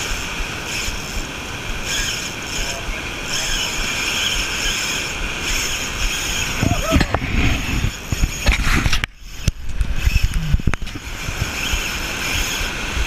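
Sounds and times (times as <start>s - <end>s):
surf washing on rocks: 0.0s - 13.0s
wind buffeting microphone: 0.0s - 13.0s.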